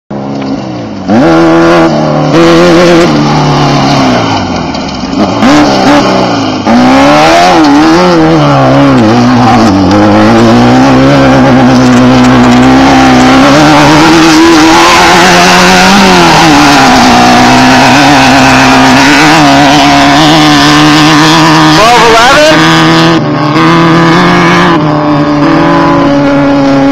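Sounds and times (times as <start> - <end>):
race car engines revving: 0.1 - 26.9.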